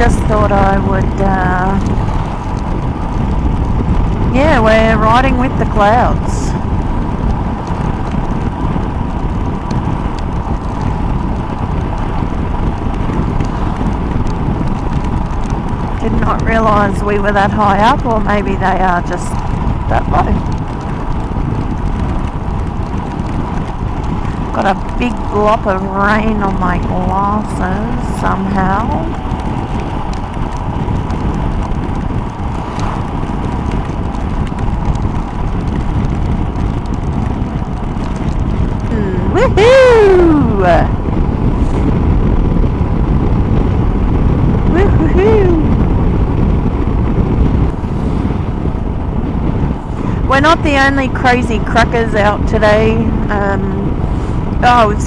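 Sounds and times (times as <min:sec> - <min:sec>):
motorcycle engine running: 0:00.0 - 0:55.0
wind buffeting helmet microphone: 0:00.0 - 0:55.0.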